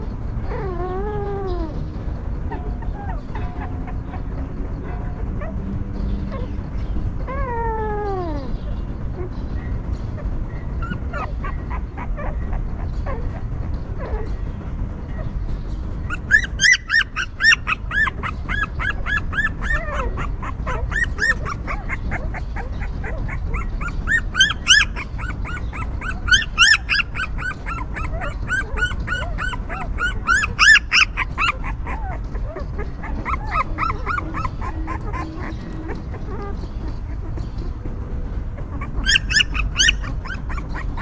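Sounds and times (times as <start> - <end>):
puppies whimpering and squealing: 0.0 - 41.0
steady low rumble: 0.0 - 41.0.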